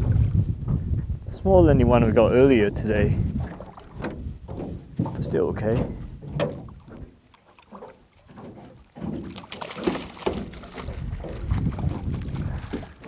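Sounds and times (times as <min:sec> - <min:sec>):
water splashing: 0:02.1 - 0:13.0.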